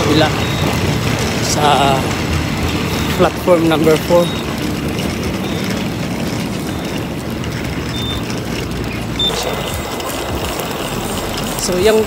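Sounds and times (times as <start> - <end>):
train running rumble and hiss: 0.0 - 12.0.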